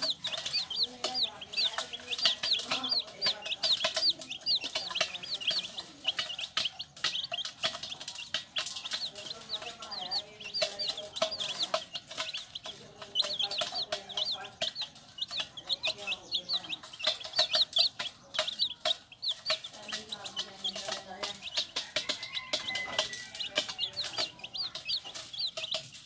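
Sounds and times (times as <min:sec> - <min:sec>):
baby chicks peeping: 0:00.0 - 0:26.0
chicken clucking: 0:00.0 - 0:26.0.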